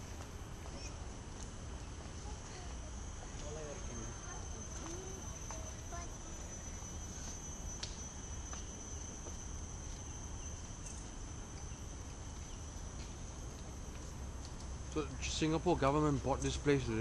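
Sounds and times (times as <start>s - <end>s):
insects droning high-pitched: 0.0s - 17.0s.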